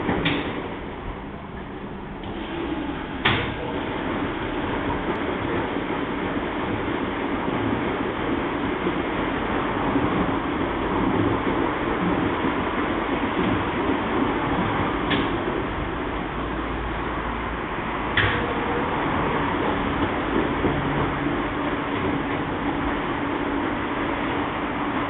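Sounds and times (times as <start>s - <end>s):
washing machine drum turning: 0.0s - 25.0s.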